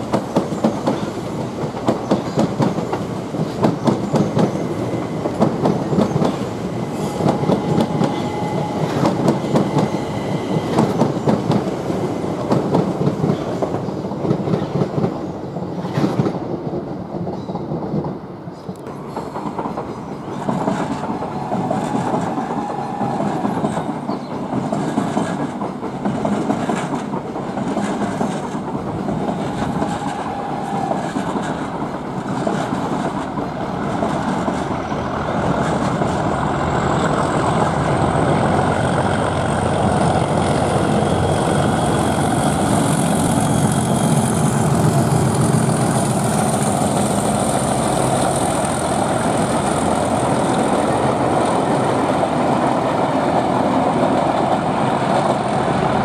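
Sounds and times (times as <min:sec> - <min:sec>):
electric train pulsing hum: 0:00.0 - 0:14.2, 0:18.9 - 0:56.0
train wheels clattering: 0:00.0 - 0:56.0.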